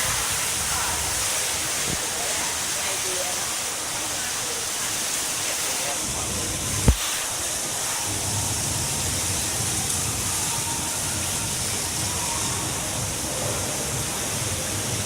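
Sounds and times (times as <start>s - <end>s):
waterfall pouring and splashing: 0.0s - 15.0s.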